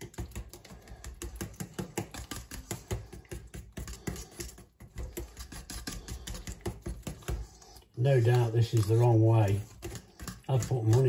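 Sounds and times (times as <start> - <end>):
utensil beating batter in metal bowl: 0.0 - 11.0.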